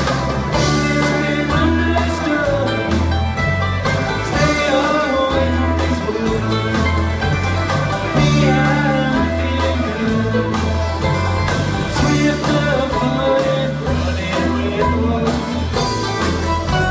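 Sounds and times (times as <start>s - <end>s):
live band playing through pa: 0.0s - 16.9s.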